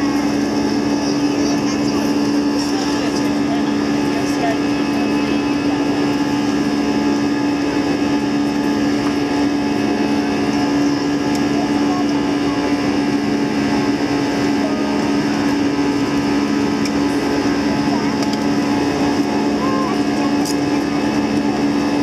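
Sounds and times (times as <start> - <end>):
jet engines droning: 0.0 - 22.0.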